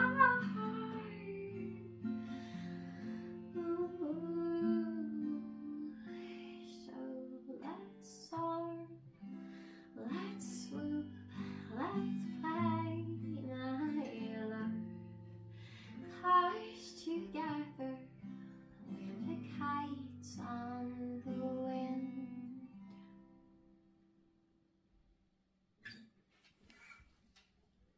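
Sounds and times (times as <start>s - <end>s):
plucked guitar music: 0.0s - 23.6s.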